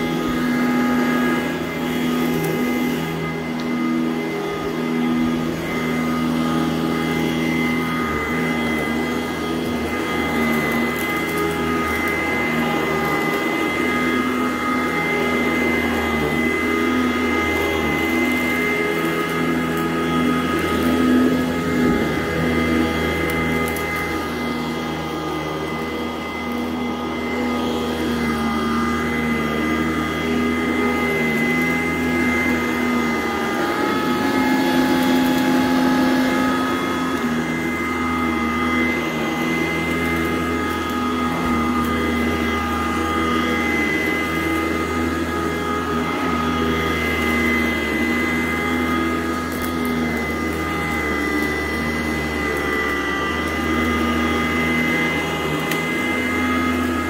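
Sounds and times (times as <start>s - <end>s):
vacuum cleaner running on carpet: 0.0s - 57.0s.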